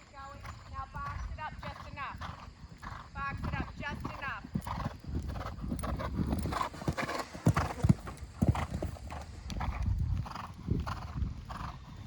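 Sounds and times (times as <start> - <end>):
horse hoofbeats cantering: 0.0 - 12.0.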